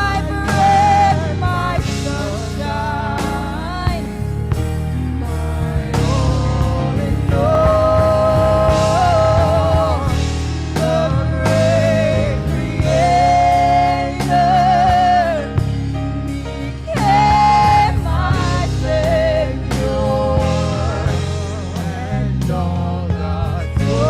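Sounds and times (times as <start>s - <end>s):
bass: 0.0s - 24.0s
keyboard: 0.0s - 24.0s
solo voice singing: 0.0s - 24.0s
steady drum beat: 0.0s - 24.0s.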